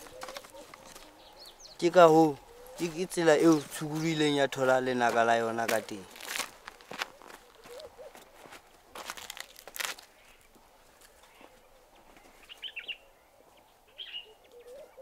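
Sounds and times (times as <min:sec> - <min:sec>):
footsteps crunching on dry leaves: 0:00.0 - 0:12.8.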